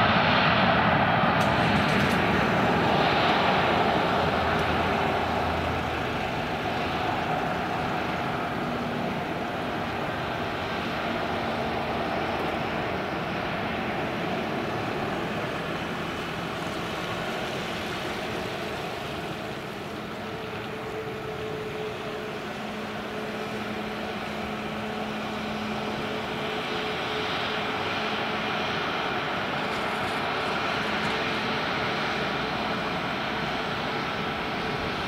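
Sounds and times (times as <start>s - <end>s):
jet engines at taxi power: 0.0s - 35.0s.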